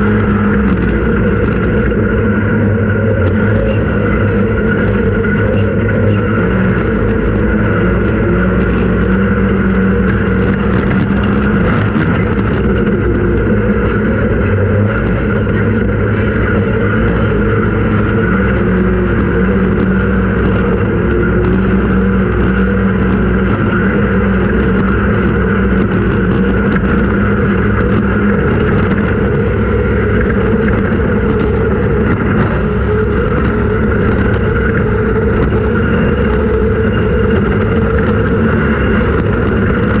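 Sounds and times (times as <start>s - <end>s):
vehicle engine running steadily: 0.0s - 40.0s.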